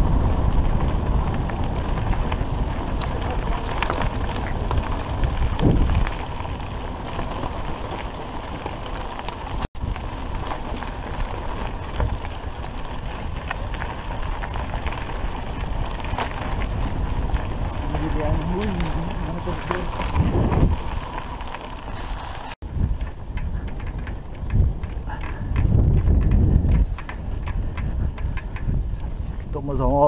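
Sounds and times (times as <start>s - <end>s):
bikes jolting over stones: 0.0s - 29.5s
bike tyres rolling on gravel: 0.0s - 30.0s
wind on microphone: 0.0s - 30.0s.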